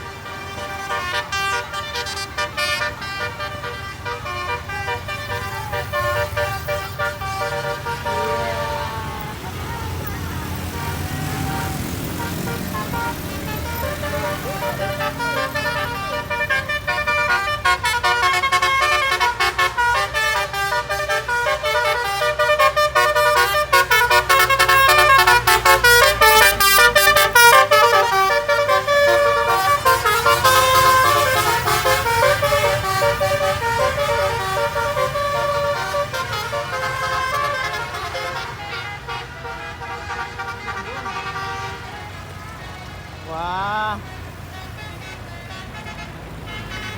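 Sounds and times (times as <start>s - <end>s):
musical air horn melody: 0.0s - 46.9s.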